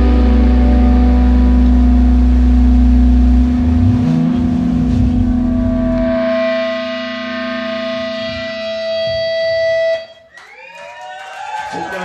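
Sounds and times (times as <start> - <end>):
deep bass notes: 0.0 - 10.2
distorted electric guitars: 0.0 - 10.3.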